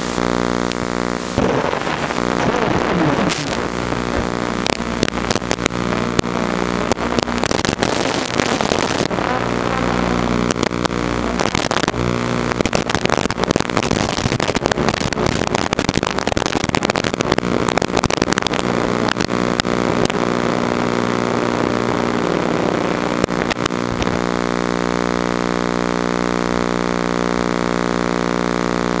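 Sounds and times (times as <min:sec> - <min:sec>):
static clicks: 0:00.0 - 0:29.0.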